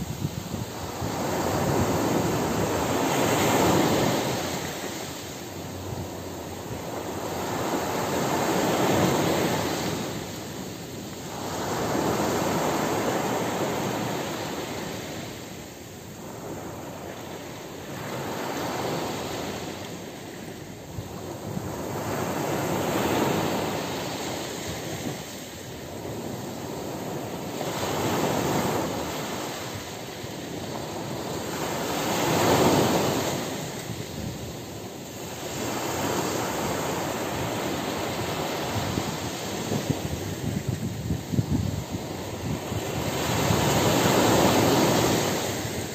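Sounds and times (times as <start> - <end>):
small waves washing on beach: 0.0 - 45.9.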